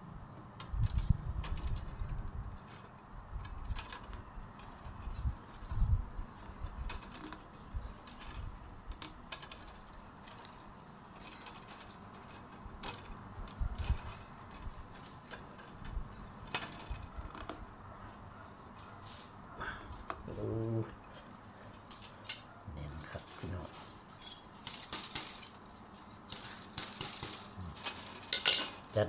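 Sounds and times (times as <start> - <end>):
bamboo strips clicking and rustling: 0.2 - 29.0.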